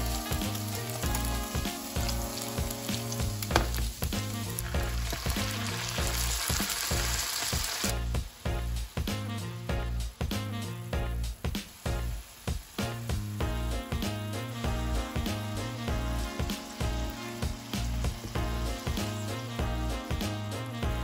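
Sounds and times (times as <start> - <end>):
background music with beat: 0.0 - 21.0
food frying in oil: 0.0 - 21.0.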